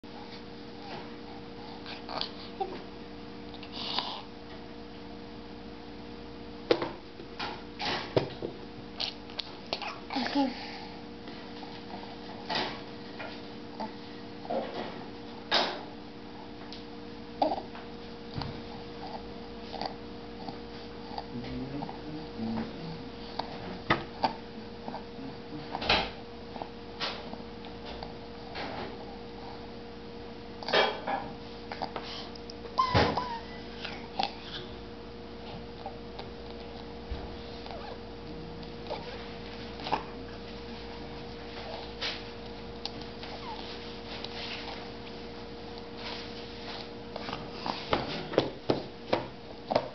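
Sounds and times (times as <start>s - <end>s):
steady hum: 0.0s - 49.9s.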